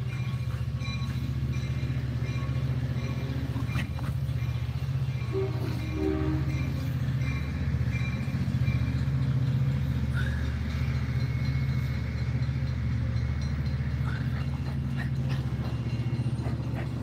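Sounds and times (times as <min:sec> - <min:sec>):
diesel train passing: 0:00.0 - 0:17.0
locomotive engine rumble: 0:00.0 - 0:17.0.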